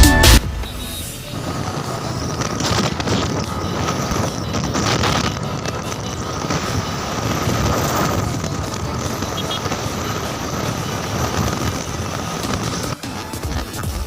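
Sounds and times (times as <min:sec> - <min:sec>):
motorcycle riding on road: 0:00.4 - 0:14.0.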